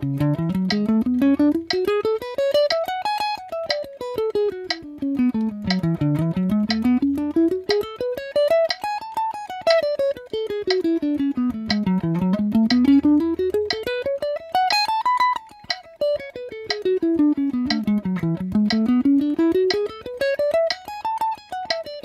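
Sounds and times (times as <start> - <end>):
electric guitar scale run: 0.0 - 2.9, 3.6 - 22.0
metronome clicking: 0.0 - 22.0.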